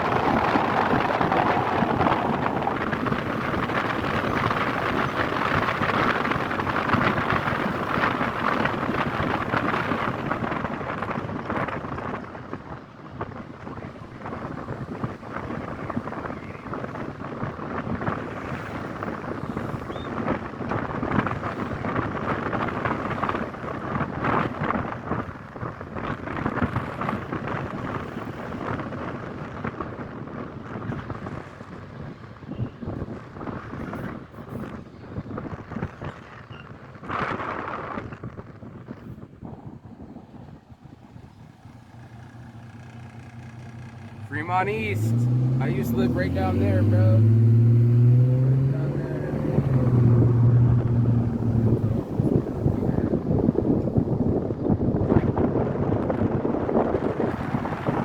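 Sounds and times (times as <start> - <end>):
road and traffic noise: 0.0 - 58.0
wind rushing over microphone: 0.0 - 58.0.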